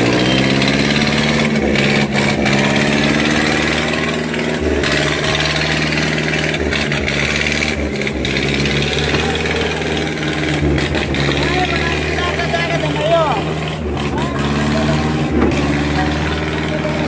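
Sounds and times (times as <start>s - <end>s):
tractor diesel engines revving: 0.0s - 17.0s.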